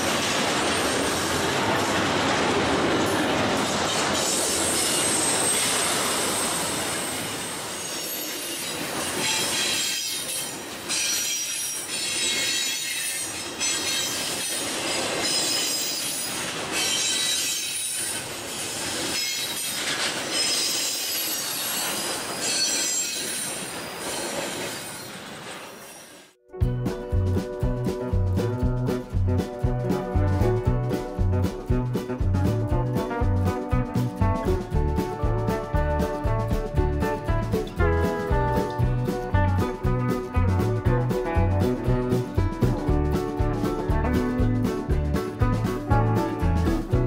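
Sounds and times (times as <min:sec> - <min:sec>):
freight train rumble: 0:00.0 - 0:25.4, 0:26.6 - 0:47.0.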